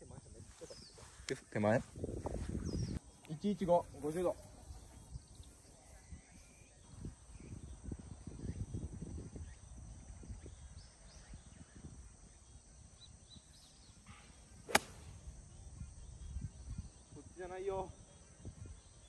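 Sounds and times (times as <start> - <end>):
wind rumble on microphone: 0.0 - 3.1, 3.9 - 13.6, 14.9 - 17.4, 18.3 - 19.0
high insect hum: 0.0 - 19.0
faint bird chirps: 0.4 - 1.4, 2.4 - 19.0.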